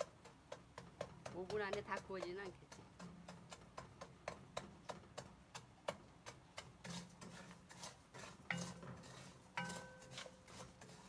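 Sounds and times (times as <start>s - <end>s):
wooden spoon stirring salt in pan: 0.0s - 11.0s.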